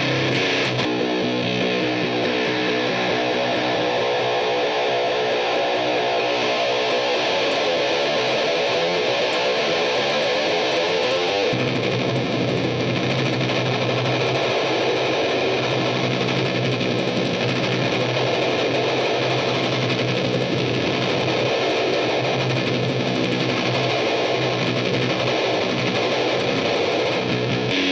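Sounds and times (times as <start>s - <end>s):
fuzz electric guitar: 0.0s - 27.9s.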